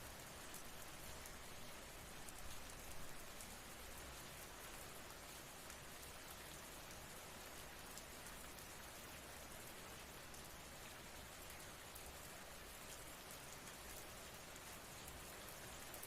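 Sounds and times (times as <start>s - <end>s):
patter of raindrops: 0.0s - 16.0s
soft rain hiss: 0.0s - 16.0s.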